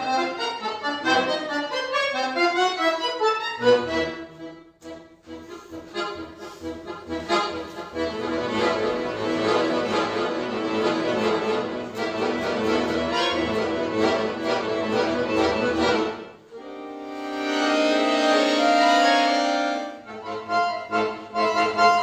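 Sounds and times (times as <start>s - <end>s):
solo accordion playing: 0.0s - 22.0s.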